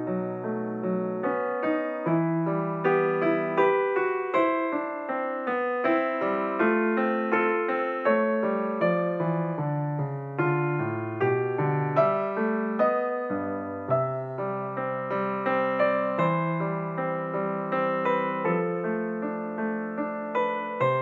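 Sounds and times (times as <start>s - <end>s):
slow sad piano music: 0.0s - 21.0s.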